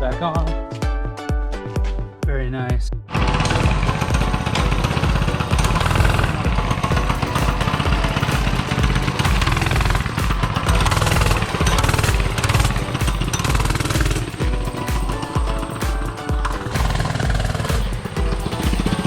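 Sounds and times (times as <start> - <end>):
music with driving beat: 0.0 - 19.0.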